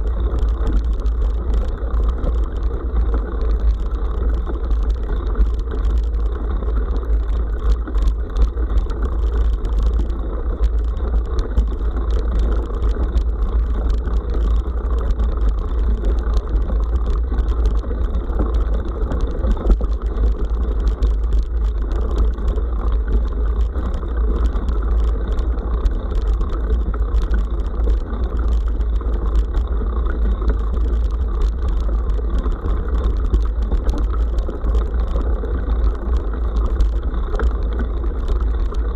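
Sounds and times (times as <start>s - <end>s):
bike clicks and rattles: 0.0s - 38.9s
wind rumble on microphone: 0.0s - 38.9s.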